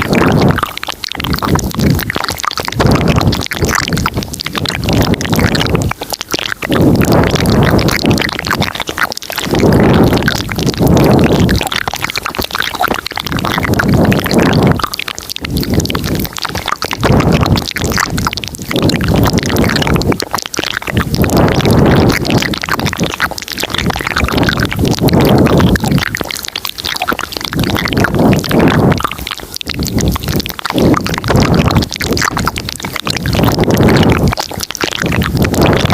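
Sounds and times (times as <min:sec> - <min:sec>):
wet mouth sounds: 0:00.0 - 0:35.9.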